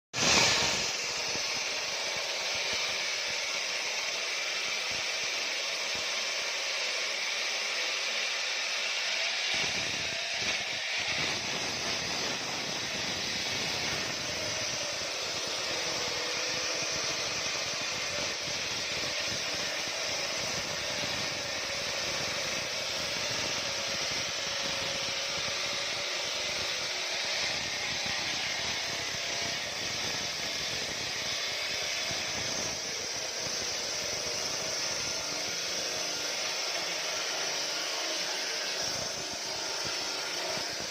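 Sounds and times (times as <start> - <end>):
diamond saw cutting concrete: 0.1 - 40.9.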